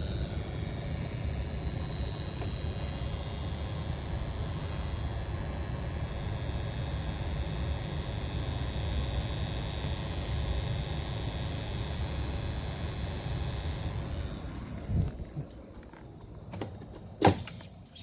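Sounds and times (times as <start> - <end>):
air conditioner hissing: 0.0 - 18.0.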